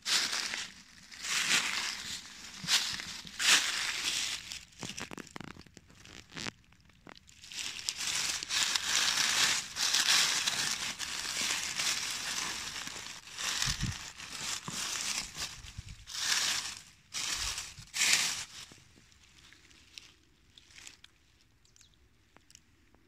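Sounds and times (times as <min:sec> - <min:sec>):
footsteps through dry leaves: 0:00.0 - 0:06.5, 0:07.3 - 0:21.0
hand rustling dry leaves: 0:00.0 - 0:06.6, 0:07.3 - 0:21.0.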